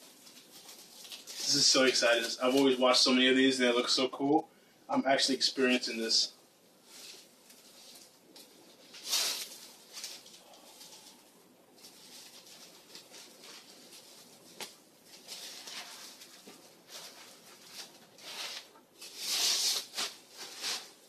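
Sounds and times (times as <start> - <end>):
packing wrap rustling: 0.0 - 2.8, 6.8 - 21.0.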